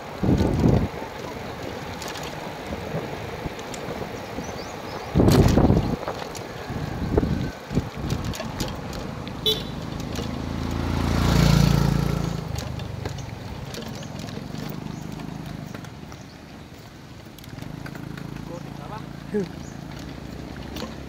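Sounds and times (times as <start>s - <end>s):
bicycle rattling over concrete: 0.0s - 21.0s
small motorcycle passing: 0.0s - 21.0s.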